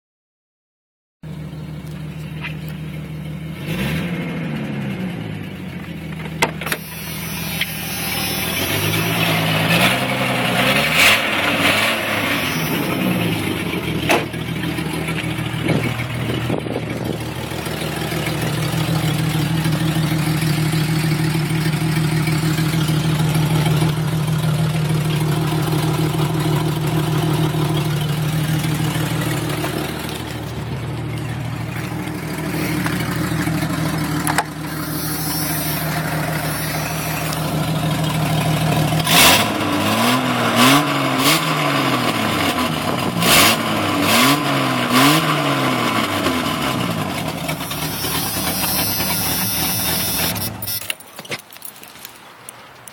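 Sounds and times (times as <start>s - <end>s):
car engine revving with exhaust leak: 1.3s - 51.0s.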